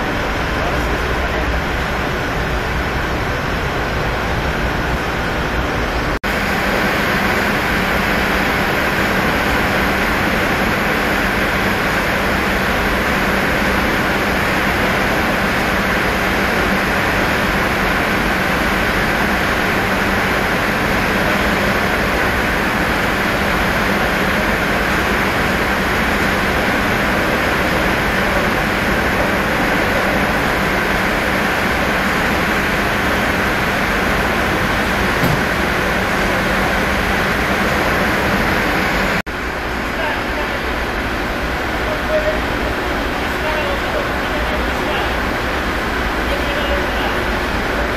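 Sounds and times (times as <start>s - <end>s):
machinery hum and hiss: 0.0s - 47.9s.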